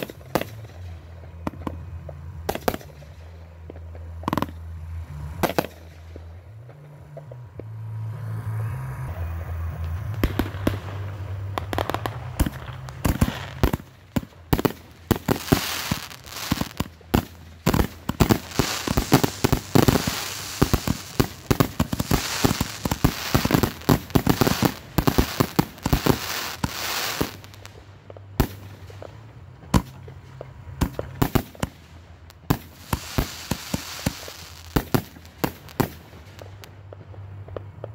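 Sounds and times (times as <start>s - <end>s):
fireworks bangs: 0.0s - 8.0s, 9.4s - 37.9s
fireworks crackling: 0.0s - 8.1s, 9.1s - 37.9s.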